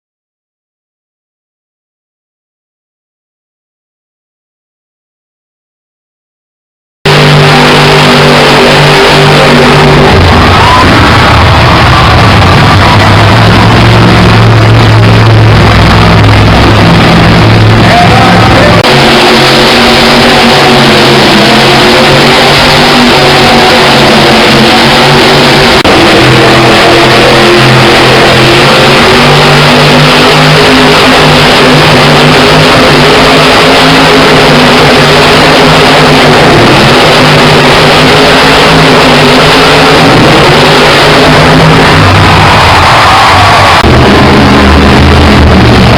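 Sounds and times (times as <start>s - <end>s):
music playing: 7.1s - 45.9s
truck engines revving: 7.1s - 45.9s.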